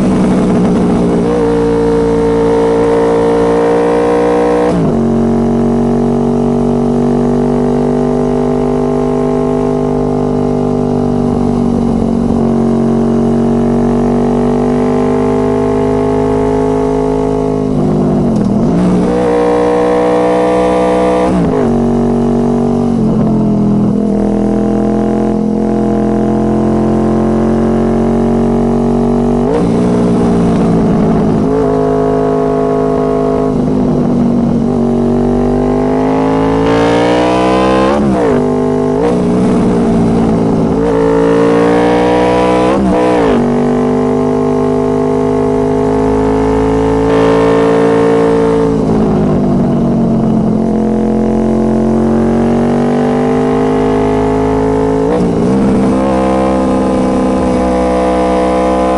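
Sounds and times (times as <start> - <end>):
motorcycle engine and exhaust: 0.0 - 58.9.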